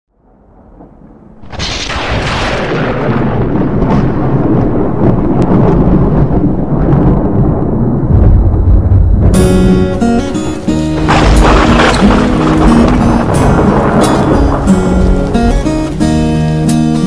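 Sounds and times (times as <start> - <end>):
heavy rain: 0.1 - 17.0
thunder rumbling: 0.1 - 17.0.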